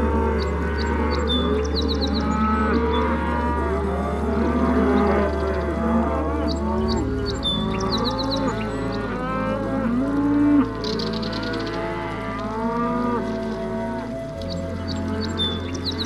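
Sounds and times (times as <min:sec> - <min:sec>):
cow mooing: 0:00.0 - 0:14.2
soft background music: 0:00.0 - 0:16.0.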